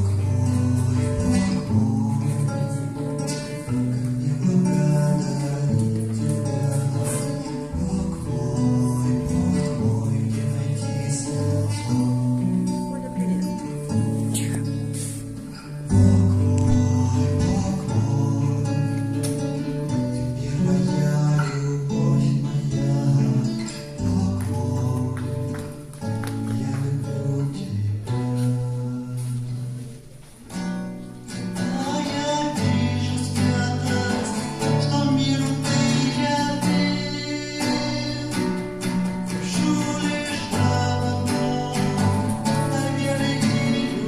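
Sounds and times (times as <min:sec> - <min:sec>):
guitar playing chords: 0:00.0 - 0:44.0.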